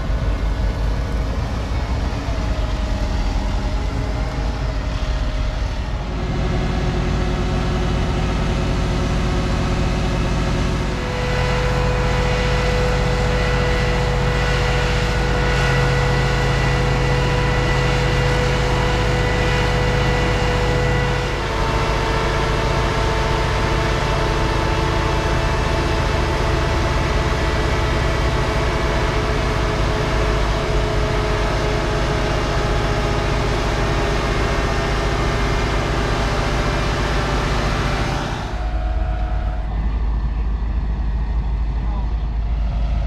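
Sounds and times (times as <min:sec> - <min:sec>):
heavy machinery engine rumble: 0:00.0 - 0:43.0
machinery whine: 0:00.0 - 0:43.0.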